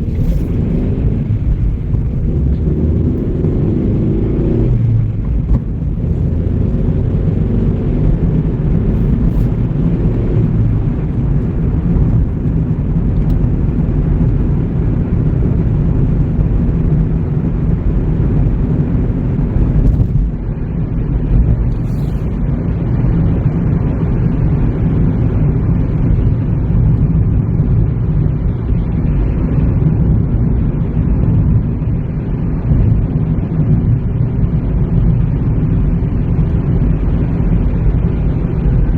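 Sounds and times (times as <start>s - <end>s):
road noise hiss: 0.0s - 16.8s, 17.5s - 38.9s
car engine rumble: 0.0s - 38.9s.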